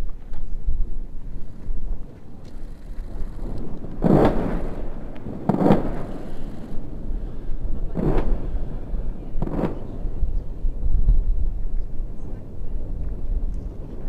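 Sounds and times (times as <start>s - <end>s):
distant explosions: 1.3s - 13.9s.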